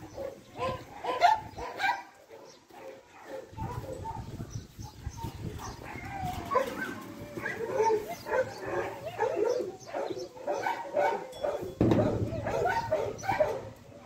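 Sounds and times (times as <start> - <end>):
dogs barking: 0.0 - 14.0.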